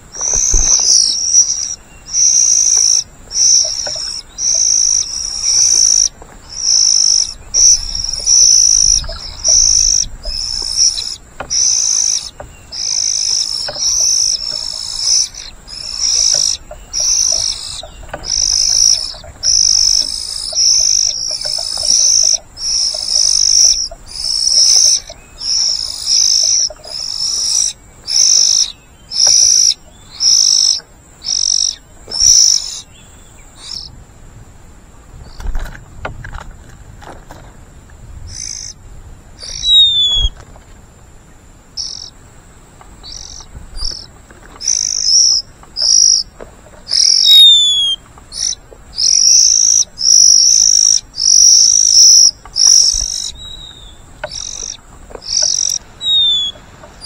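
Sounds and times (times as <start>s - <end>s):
nestlings begging calls: 0.0s - 33.9s, 38.3s - 38.8s, 39.4s - 40.4s, 41.8s - 42.2s, 43.0s - 46.3s, 46.9s - 56.6s.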